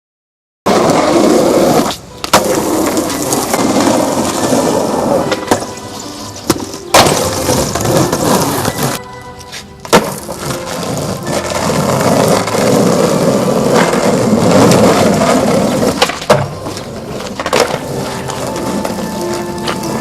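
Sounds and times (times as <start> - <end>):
skateboard clacking on ground: 0.7 - 20.0
skateboard wheels rolling on pavement: 0.7 - 20.0.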